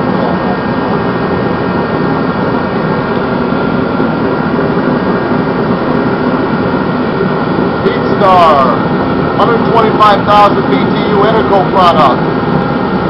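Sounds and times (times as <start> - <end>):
heater rush of air and flame: 0.0 - 13.0.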